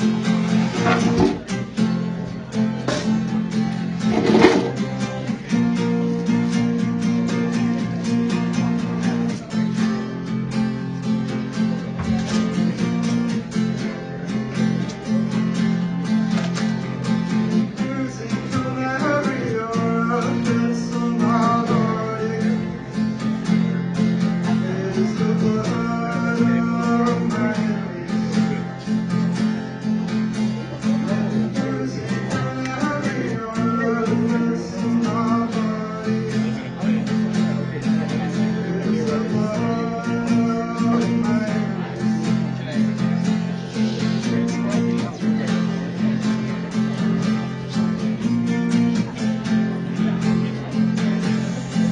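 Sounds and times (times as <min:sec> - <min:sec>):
acoustic guitar strumming: 0:00.0 - 0:51.9.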